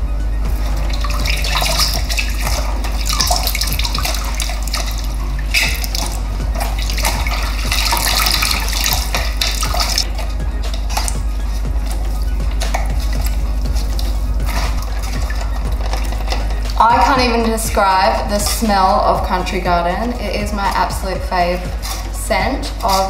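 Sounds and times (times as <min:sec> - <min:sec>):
background music: 0:00.0 - 0:23.0
cloth scrubbing plastic: 0:00.5 - 0:23.0
water sloshing in a sink: 0:00.5 - 0:23.0.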